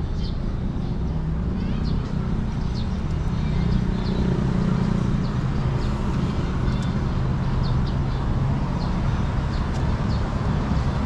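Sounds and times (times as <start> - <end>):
birds chirping: 0.0 - 11.0
low traffic rumble: 0.0 - 11.0.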